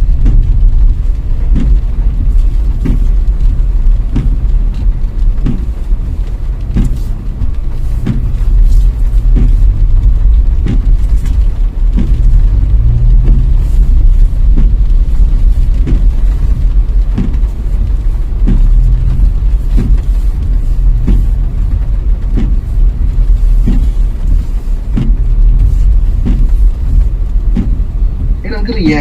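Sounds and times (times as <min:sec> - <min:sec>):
car cabin road rumble: 0:00.0 - 0:29.0
heavy rain: 0:00.0 - 0:29.0
windscreen wipers thudding: 0:00.0 - 0:29.0.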